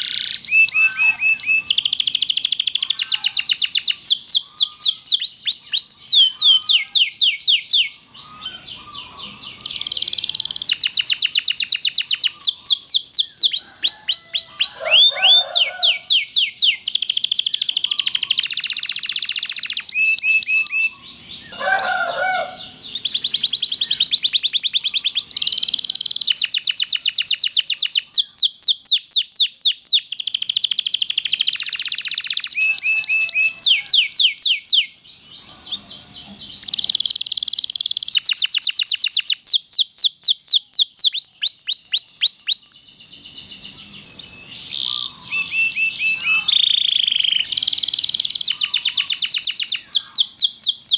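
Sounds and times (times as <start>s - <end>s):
canary singing rolling trills: 0.0s - 50.9s.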